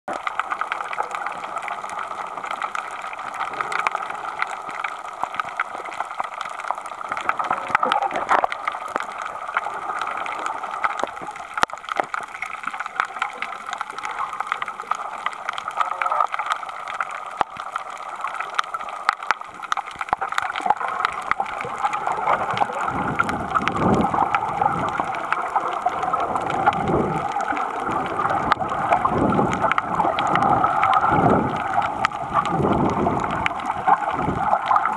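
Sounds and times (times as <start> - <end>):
faint clicks: 0.1 - 34.9
low rushing water surges: 0.1 - 34.9
muffled underwater hiss: 0.1 - 34.9.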